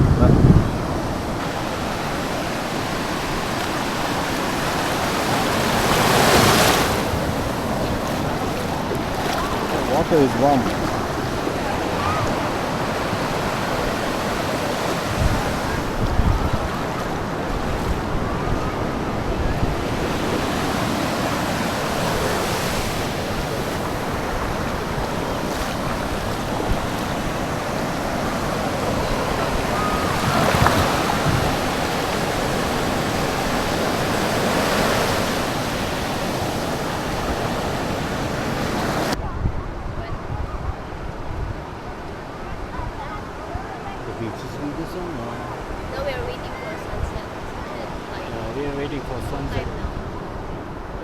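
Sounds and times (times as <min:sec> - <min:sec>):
sea waves washing onto beach: 0:00.0 - 0:39.2, 0:40.0 - 0:51.0
wind buffeting microphone: 0:00.0 - 0:44.4.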